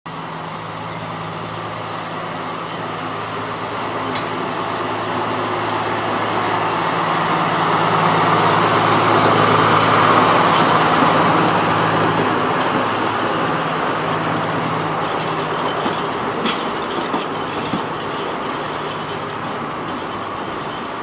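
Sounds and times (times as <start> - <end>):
diesel locomotive engine passing: 0.1 - 21.0.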